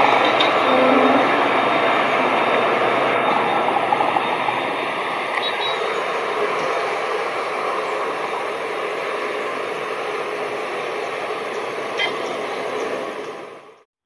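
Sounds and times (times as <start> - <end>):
diesel locomotive engine: 0.0 - 13.9
train rolling noise: 0.0 - 13.9.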